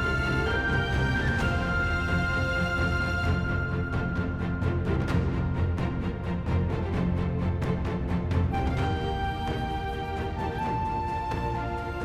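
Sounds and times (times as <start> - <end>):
sustained soundtrack music: 0.0 - 12.0.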